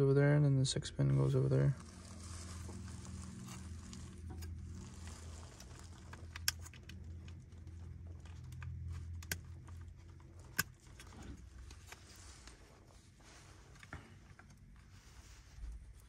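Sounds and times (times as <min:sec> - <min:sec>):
low steady hum: 0:00.0 - 0:16.0
cables rustling: 0:01.2 - 0:16.0.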